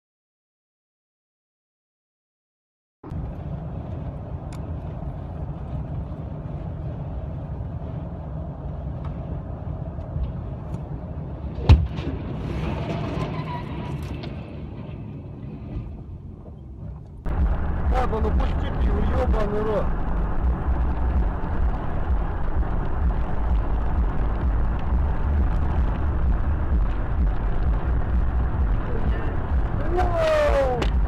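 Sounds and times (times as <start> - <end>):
road and engine rumble: 3.0 - 31.0.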